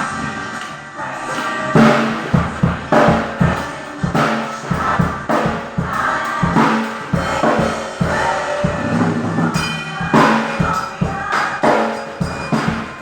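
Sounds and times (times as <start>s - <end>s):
music with singing voices: 0.0s - 13.0s
acoustic drum kit groove: 1.2s - 13.0s.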